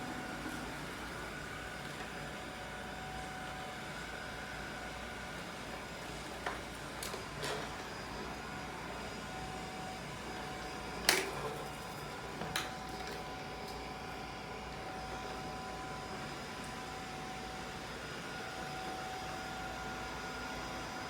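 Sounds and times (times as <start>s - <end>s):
robot vacuum cleaner humming: 0.0s - 11.6s, 12.2s - 21.0s.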